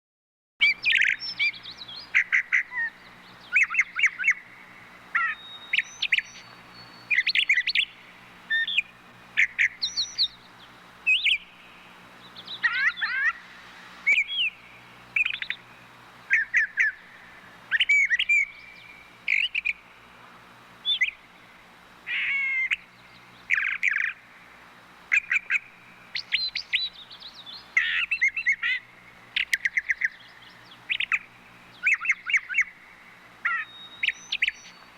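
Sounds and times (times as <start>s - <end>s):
thrushes singing: 0.6s - 34.9s.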